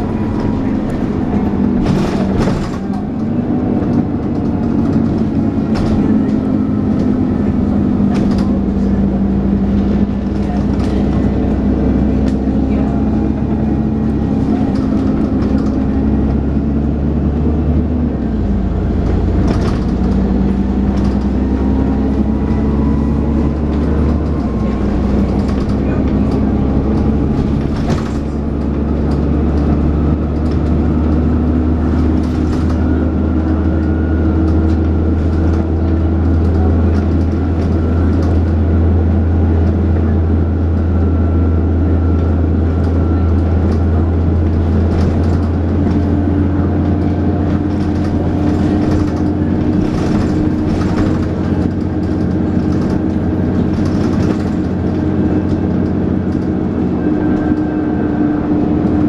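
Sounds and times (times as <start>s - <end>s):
bus body knocks and rattles: 0.0s - 59.0s
bus engine drone: 0.0s - 59.0s.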